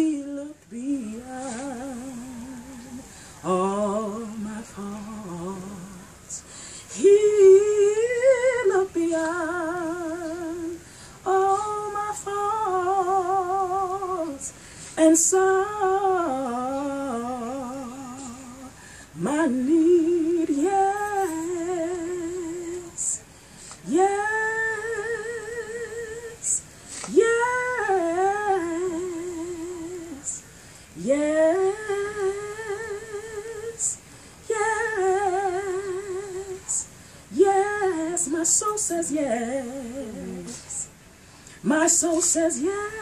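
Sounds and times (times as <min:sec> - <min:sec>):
woman humming a gospel melody: 0:00.0 - 0:41.0.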